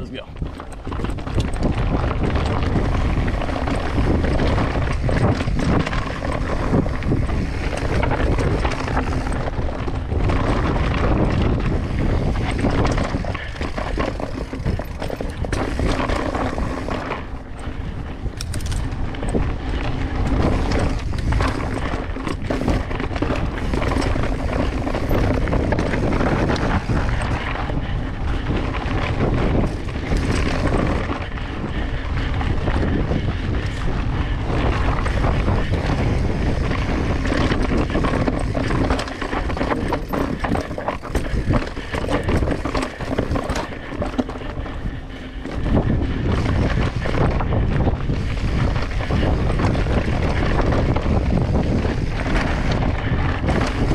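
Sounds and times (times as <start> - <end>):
bike clattering over bumps: 0.0 - 53.9
bike tyres rolling on rocky trail: 0.0 - 53.9
wind rushing over microphone: 0.0 - 53.9.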